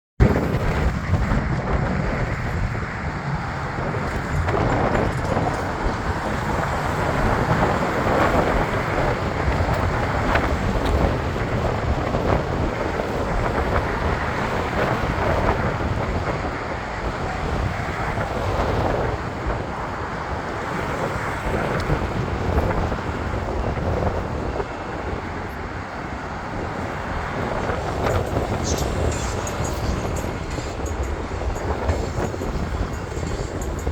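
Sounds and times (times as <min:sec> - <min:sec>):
train rumbling along track: 0:00.2 - 0:33.9
wind buffeting microphone: 0:00.2 - 0:33.9.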